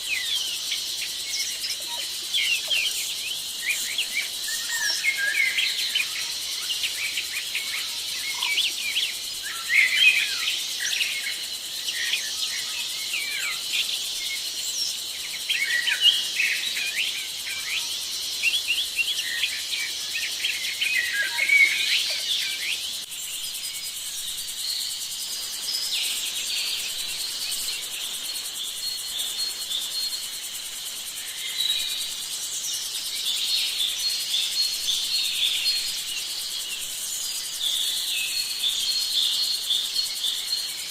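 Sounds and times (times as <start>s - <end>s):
high insect chorus: 0.0s - 40.9s.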